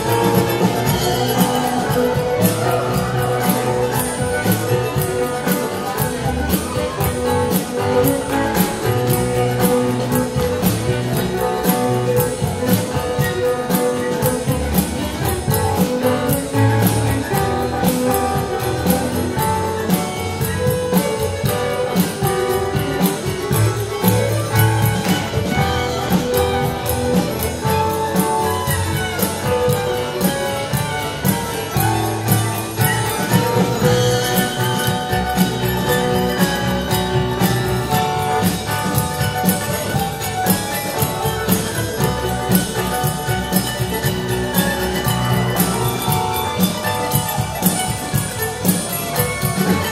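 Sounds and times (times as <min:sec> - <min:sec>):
dance band playing: 0:00.0 - 0:49.9
guitar: 0:00.0 - 0:49.9.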